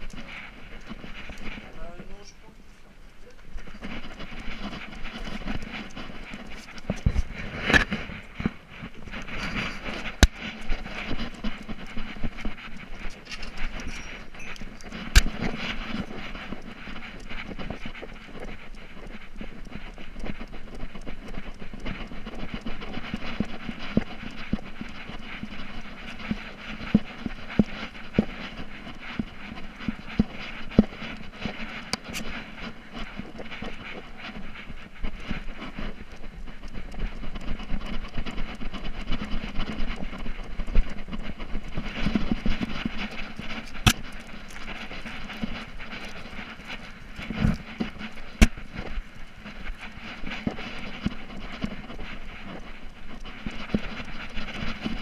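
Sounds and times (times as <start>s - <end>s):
camera and collar rattling: 0.0s - 55.0s.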